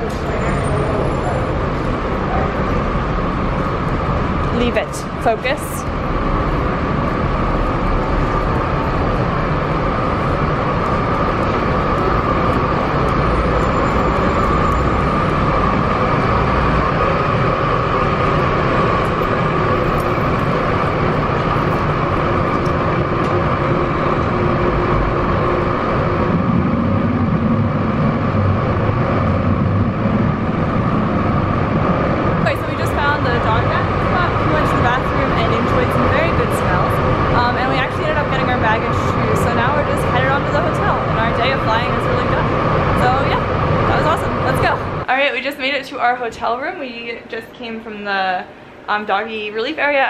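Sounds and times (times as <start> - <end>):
vehicle passing rumble: 0.0 - 45.1
road traffic din: 0.0 - 49.5
constant whine: 0.0 - 50.0.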